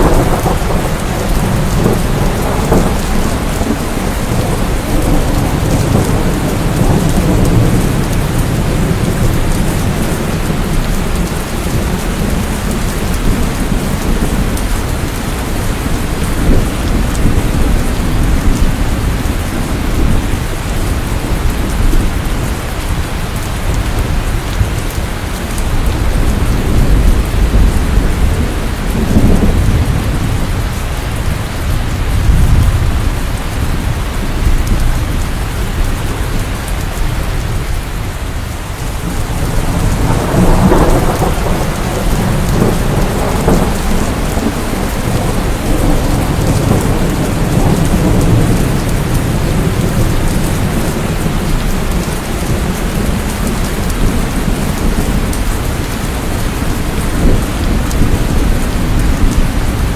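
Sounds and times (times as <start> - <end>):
low thunder rumbling: 0.0 - 59.9
steady rain: 0.0 - 59.9.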